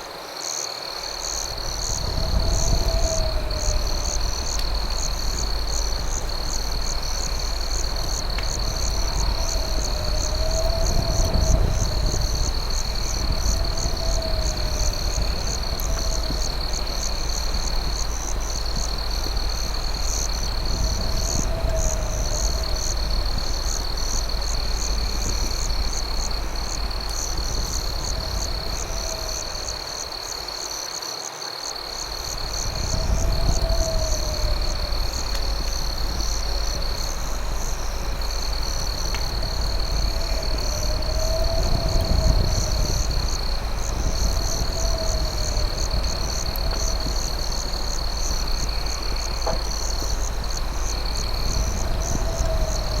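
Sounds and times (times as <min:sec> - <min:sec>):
crickets trilling: 0:00.0 - 0:53.0
low rumble: 0:01.2 - 0:30.3, 0:32.0 - 0:53.0.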